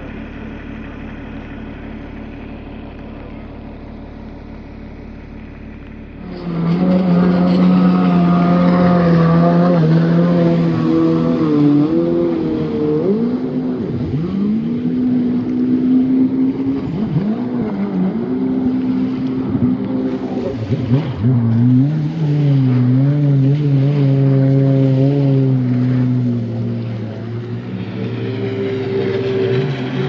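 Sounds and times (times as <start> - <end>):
jet ski engine running: 0.0 - 30.0.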